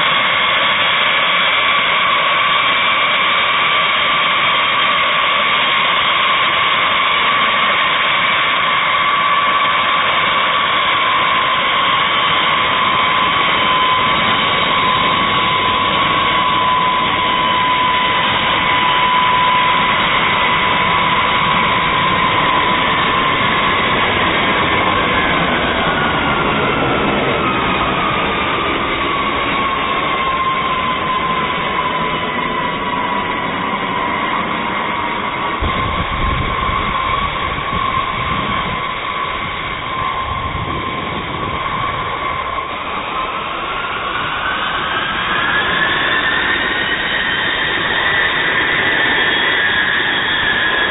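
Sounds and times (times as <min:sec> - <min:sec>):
high jet whine: 0:00.0 - 0:50.9
jet engine rumble: 0:00.0 - 0:50.9.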